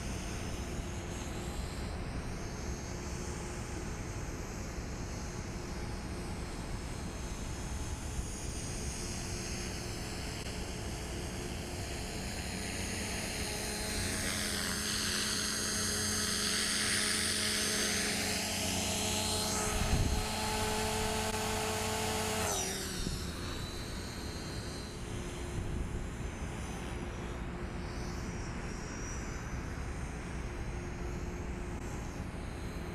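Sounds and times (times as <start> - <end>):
rc helicopter motor whine: 0.0 - 32.9.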